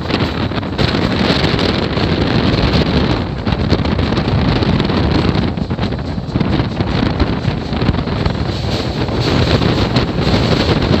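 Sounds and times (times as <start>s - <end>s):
train coach rumbling on track: 0.0s - 11.0s
wind buffeting microphone: 0.0s - 11.0s.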